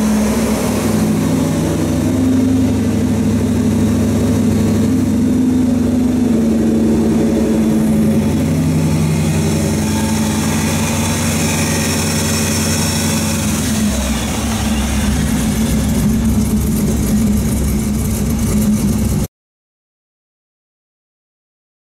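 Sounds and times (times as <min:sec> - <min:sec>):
car engine running: 0:00.0 - 0:19.3.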